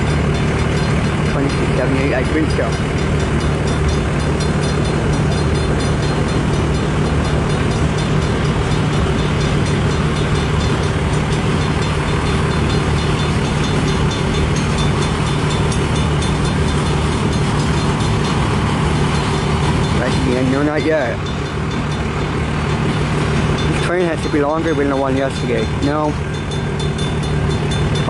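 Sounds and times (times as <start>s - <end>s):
low hums: 0.0s - 28.0s
train wheels rumbling on rail: 0.0s - 28.0s.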